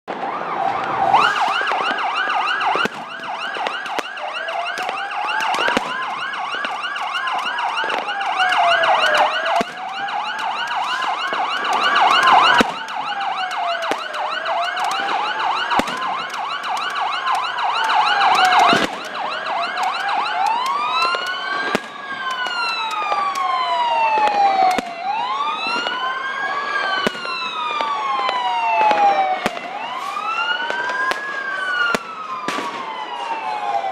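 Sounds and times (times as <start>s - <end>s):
firework bangs: 0.1s - 23.4s, 24.0s - 26.0s, 26.8s - 33.4s
electronic sirens yelping and wailing: 0.1s - 33.9s.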